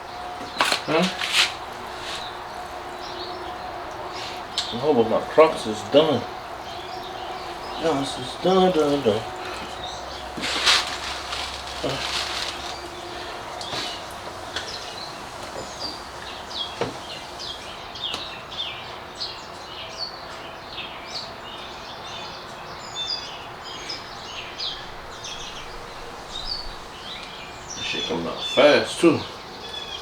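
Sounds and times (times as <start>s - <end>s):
steady hiss: 0.0s - 18.5s, 23.9s - 29.6s
small birds chirping: 0.0s - 30.0s.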